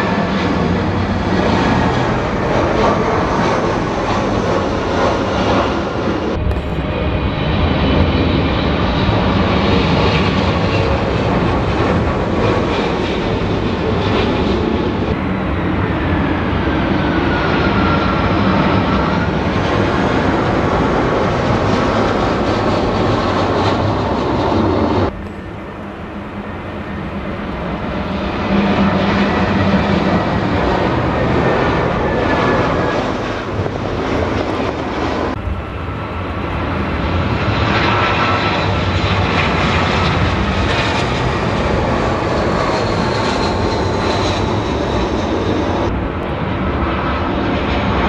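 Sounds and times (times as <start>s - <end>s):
faint jet engine whine: 0.0s - 48.0s
jet airliner passing overhead: 0.0s - 48.0s.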